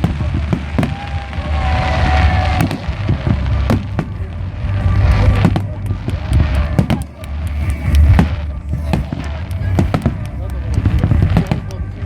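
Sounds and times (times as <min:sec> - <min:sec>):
deep rumble of booms: 0:00.0 - 0:12.0
fireworks sharp bangs: 0:00.0 - 0:12.0.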